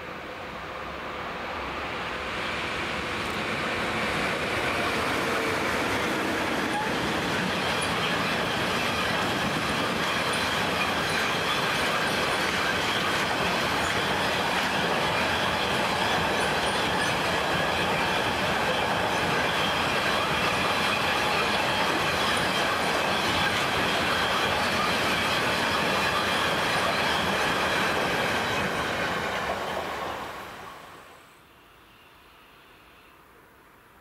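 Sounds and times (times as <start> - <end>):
freight wagons rumbling on rails: 2.3 - 30.4.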